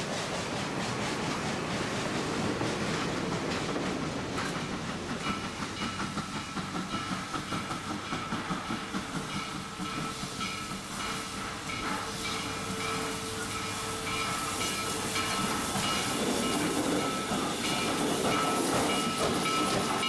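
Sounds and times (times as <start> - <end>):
steam hissing: 0.0 - 20.0
steam locomotive exhaust chuffs: 0.0 - 20.0
train wheels clattering: 0.0 - 20.0.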